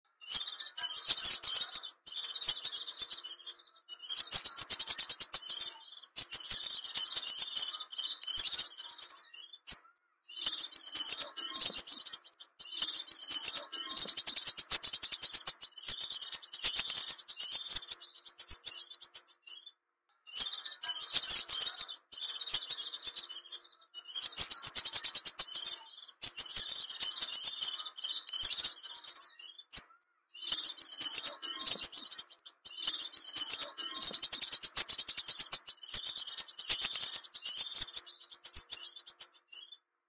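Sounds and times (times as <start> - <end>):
bird singing high trills: 0.1 - 39.8.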